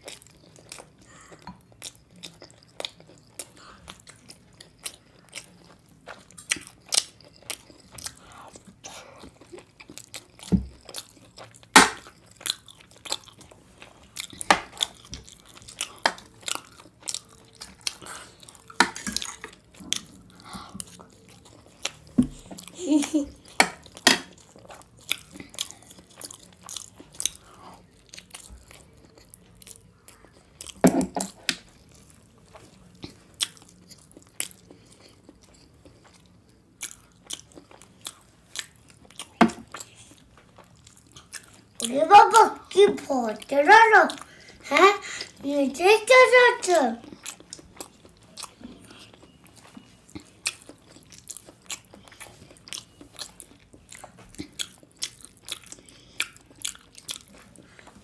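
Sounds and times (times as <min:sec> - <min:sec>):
person chewing food: 0:00.0 - 0:45.4, 0:46.2 - 0:58.0.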